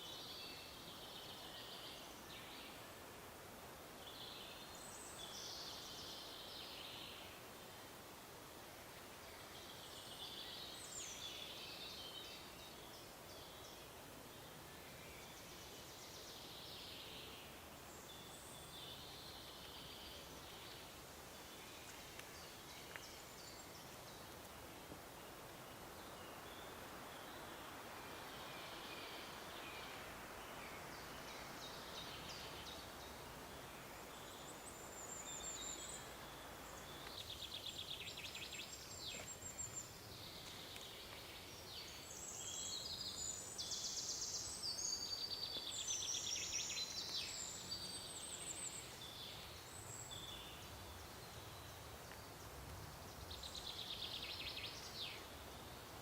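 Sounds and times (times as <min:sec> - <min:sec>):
soft background hiss: 0:00.0 - 0:56.0.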